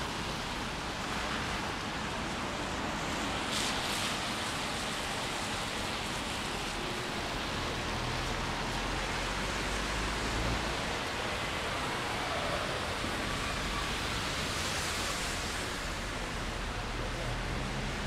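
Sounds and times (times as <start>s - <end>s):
rain hissing on street: 0.0s - 18.0s.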